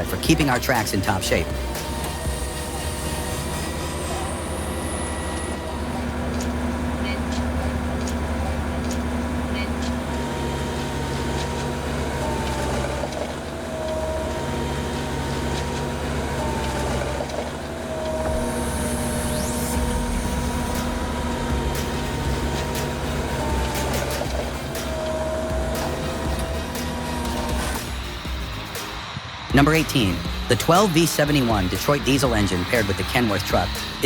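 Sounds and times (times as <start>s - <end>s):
low engine drone: 0.0s - 34.0s
machine whine: 0.0s - 34.0s.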